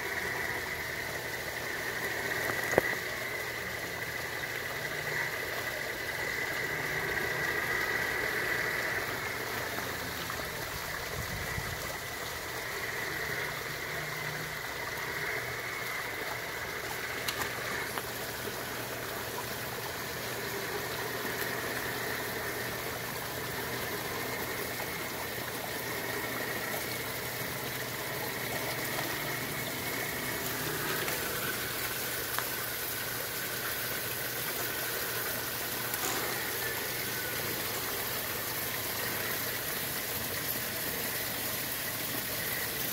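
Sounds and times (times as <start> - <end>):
running water: 0.0 - 42.9
toy truck motor whine: 0.0 - 42.9.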